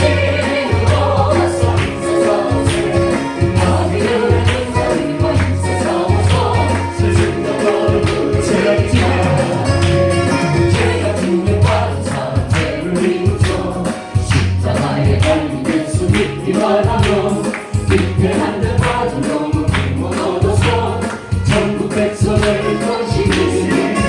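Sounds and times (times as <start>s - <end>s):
strong bass: 0.0s - 24.0s.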